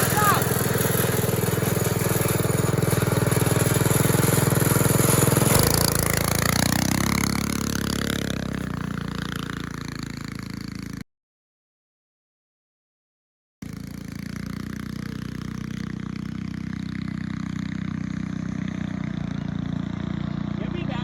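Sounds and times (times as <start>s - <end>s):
small gasoline engine running: 0.0s - 11.0s, 13.6s - 21.0s.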